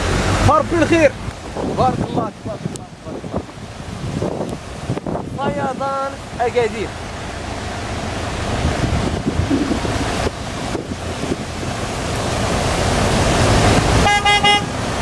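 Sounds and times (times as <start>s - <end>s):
tyres splashing through water: 0.0s - 15.0s
wind buffeting microphone: 1.1s - 6.4s, 7.0s - 14.1s.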